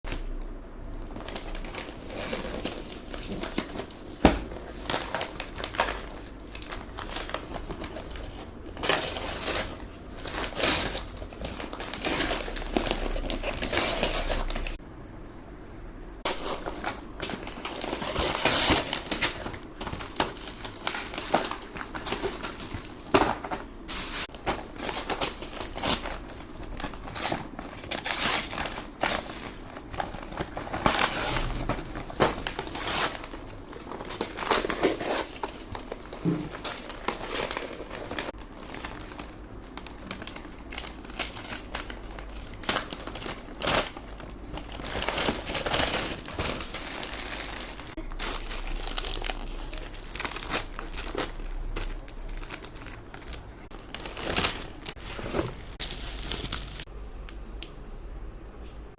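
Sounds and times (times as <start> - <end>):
packaging crinkling: 1.0 - 14.8, 16.2 - 56.9.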